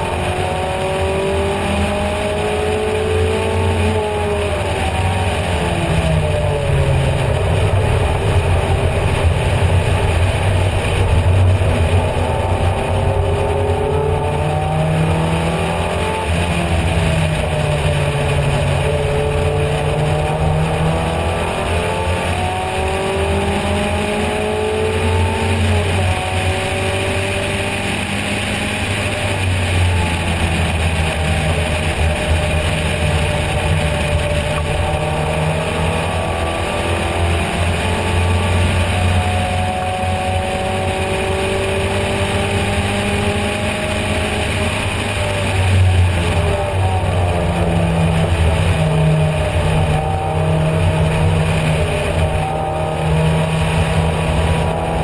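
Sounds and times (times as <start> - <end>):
race car engine revving: 0.0 - 55.0
wind and road rush: 0.0 - 55.0.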